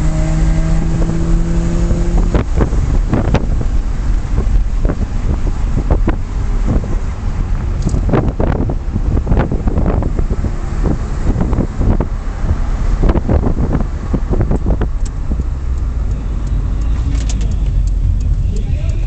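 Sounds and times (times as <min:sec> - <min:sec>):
wind buffeting microphone: 0:00.0 - 0:18.4
car engine deep rumble: 0:00.0 - 0:19.0.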